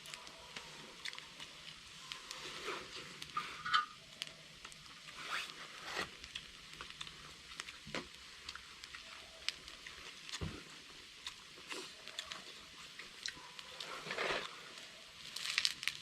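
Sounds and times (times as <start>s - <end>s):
crackles and pops: 0.0s - 16.0s
pork sizzling on metal lid: 0.0s - 16.0s.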